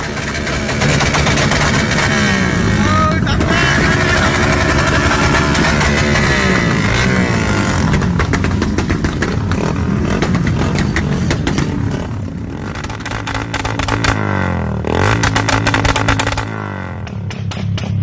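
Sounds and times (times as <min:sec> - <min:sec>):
motorcycle engine revving: 0:00.0 - 0:18.0
sharp exhaust pops: 0:00.0 - 0:18.0.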